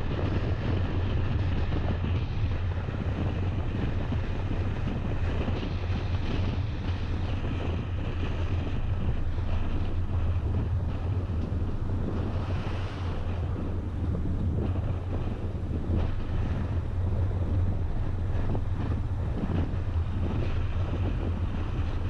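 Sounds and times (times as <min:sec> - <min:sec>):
car road noise rumble: 0:00.0 - 0:22.0
wind rushing over microphone: 0:00.0 - 0:22.0.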